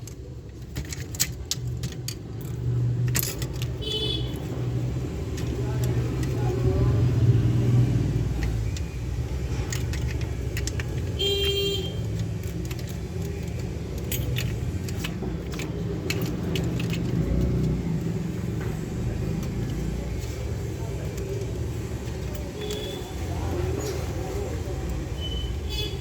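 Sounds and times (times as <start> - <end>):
road traffic rumble: 0.0 - 26.0
small sharp clicks and rattles: 0.0 - 26.0.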